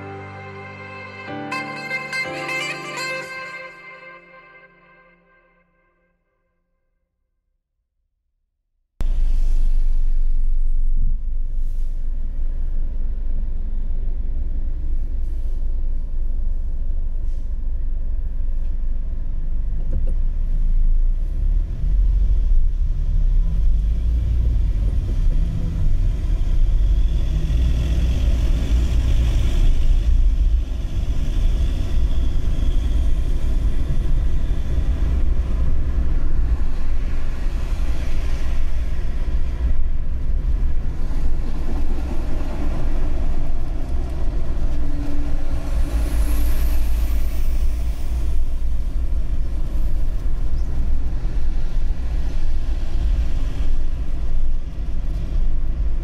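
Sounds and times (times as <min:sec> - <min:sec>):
car driving on highway: 0:09.0 - 0:56.0.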